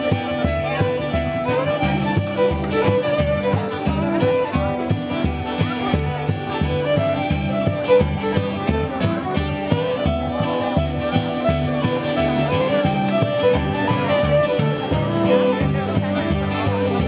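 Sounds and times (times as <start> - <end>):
acoustic guitar chords: 0.0 - 17.0
violin melody: 0.0 - 17.0.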